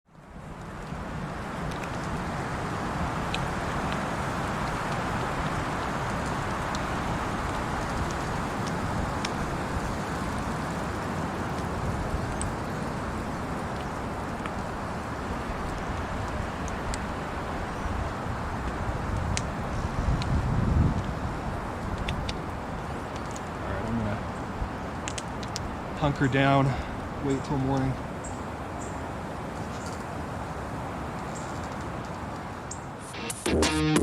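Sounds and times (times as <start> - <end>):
strong wind blowing through woods: 0.1 - 33.1.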